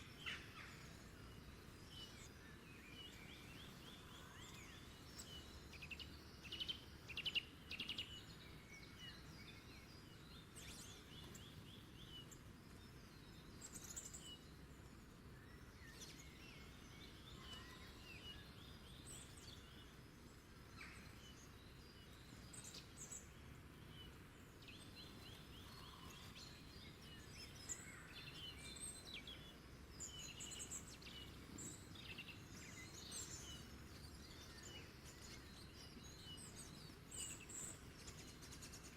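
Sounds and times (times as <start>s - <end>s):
small birds chirping and trilling: 0.0s - 38.9s
steady low hiss: 0.0s - 38.9s.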